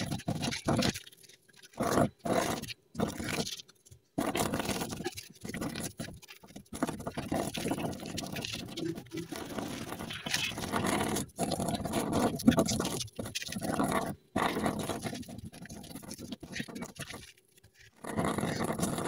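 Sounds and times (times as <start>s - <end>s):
brush dabbing and scratching: 0.0s - 19.0s.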